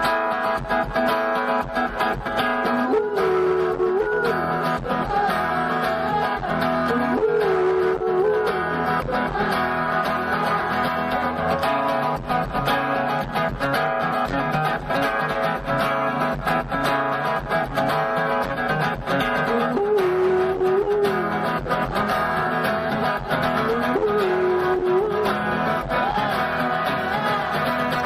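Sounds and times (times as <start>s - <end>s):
guitar strumming: 0.0s - 28.0s
held bending guitar note: 0.0s - 28.0s.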